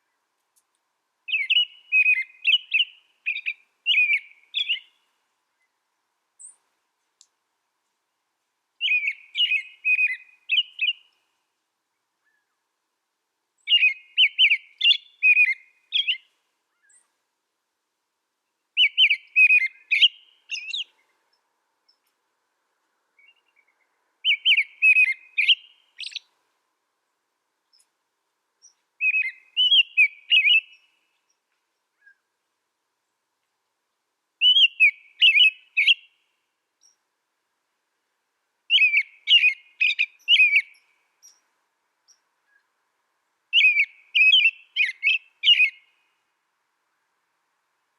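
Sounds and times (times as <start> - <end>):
songbird singing: 0.0 - 17.4, 18.2 - 47.9.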